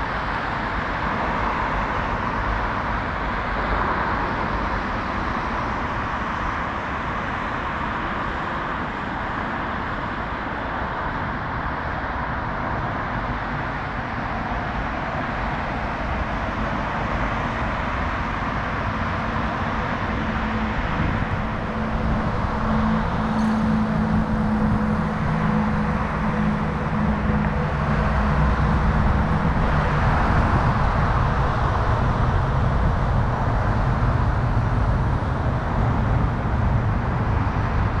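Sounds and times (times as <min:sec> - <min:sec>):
road traffic hum: 0:00.0 - 0:38.0.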